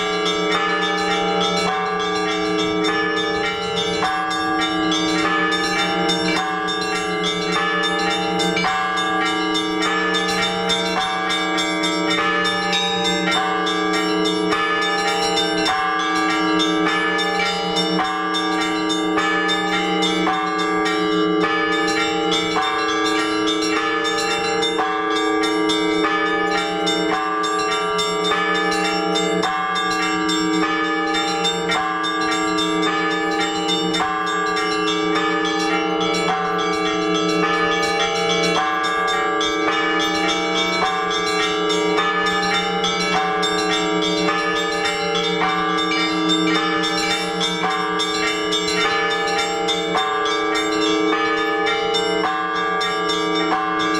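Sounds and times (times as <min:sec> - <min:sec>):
large bells ringing: 0:00.0 - 0:53.9
small bells struck rhythmically: 0:00.0 - 0:53.9.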